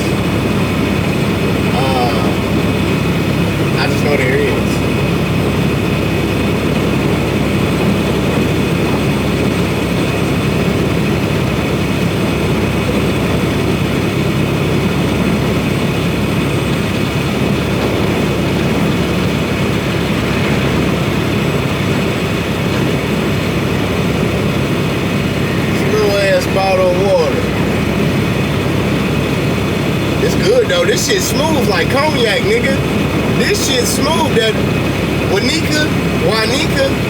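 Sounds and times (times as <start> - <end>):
road noise: 0.0 - 37.0
truck diesel engine drone: 0.0 - 37.0.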